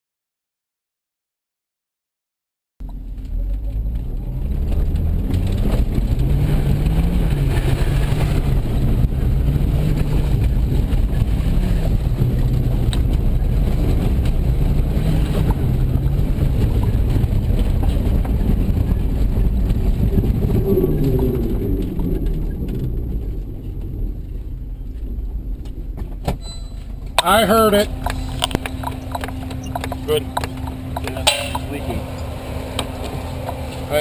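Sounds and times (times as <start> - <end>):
car engine running: 2.8 - 34.0.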